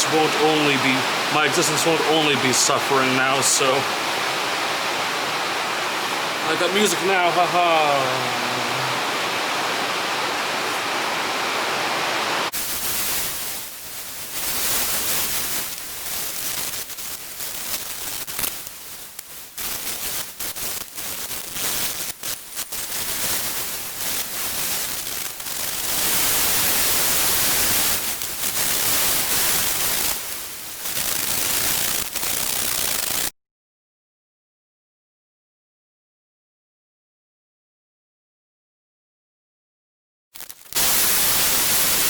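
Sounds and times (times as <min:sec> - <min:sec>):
steady hiss: 0:00.0 - 0:33.3, 0:40.4 - 0:42.0.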